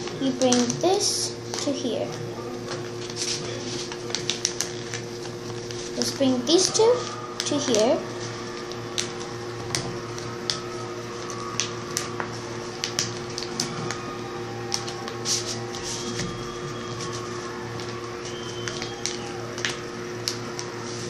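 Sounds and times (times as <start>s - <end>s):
steady low hum: 0.0s - 21.0s
paper crackling and rustling: 2.6s - 21.0s.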